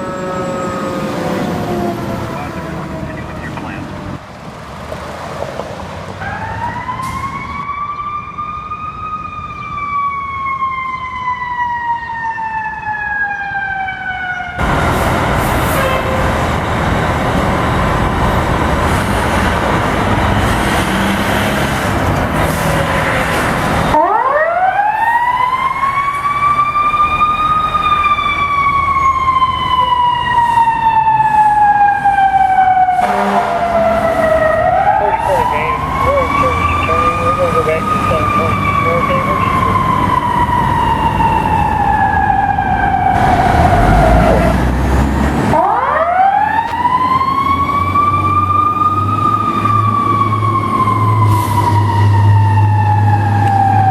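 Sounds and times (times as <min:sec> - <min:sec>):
fire truck siren wailing: 0:00.0 - 0:04.3, 0:06.1 - 0:53.9.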